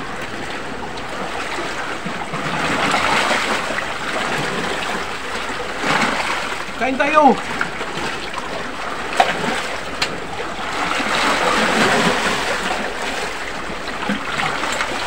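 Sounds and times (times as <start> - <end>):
waves on a rocky shore: 0.0 - 15.0.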